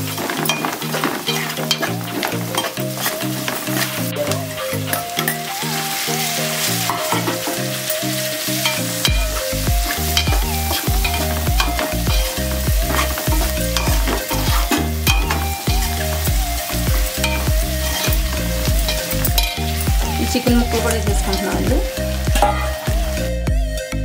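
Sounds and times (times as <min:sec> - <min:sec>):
background music with deep bass: 0:00.0 - 0:24.0
frying sizzle: 0:00.0 - 0:24.0.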